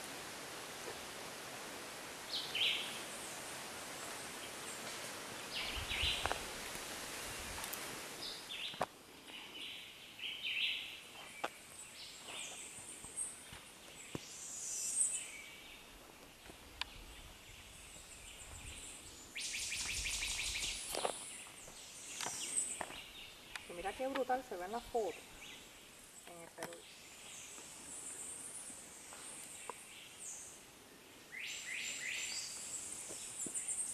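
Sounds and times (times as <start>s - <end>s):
soft steady hiss: 0.0s - 33.9s.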